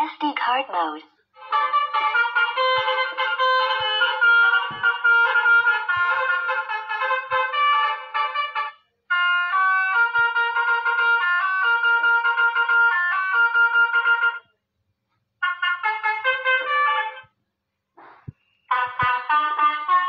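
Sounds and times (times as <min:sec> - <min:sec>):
multi-note bus horn melody: 0:01.4 - 0:14.6, 0:15.4 - 0:17.4, 0:18.6 - 0:20.0.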